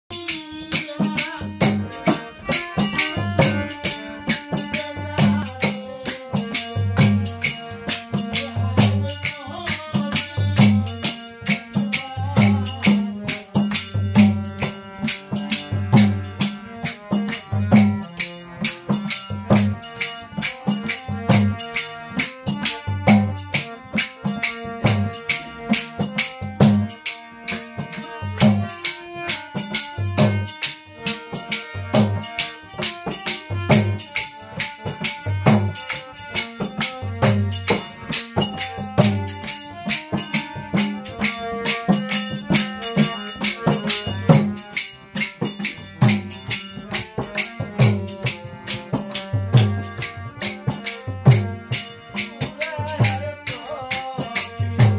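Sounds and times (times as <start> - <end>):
harmonium chords: 0.0 - 54.9
jingling hand percussion: 0.0 - 54.9
drum beating a rhythm: 0.1 - 54.9
hand claps: 1.8 - 54.9.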